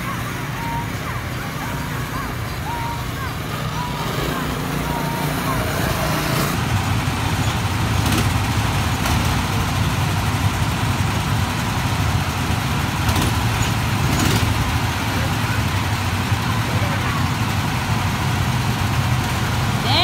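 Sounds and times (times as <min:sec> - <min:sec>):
go-kart engines rumbling: 0:00.0 - 0:20.0.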